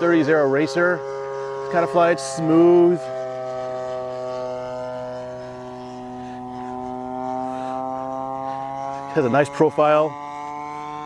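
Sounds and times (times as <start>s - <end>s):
model airplane engine drone: 0.0s - 11.0s.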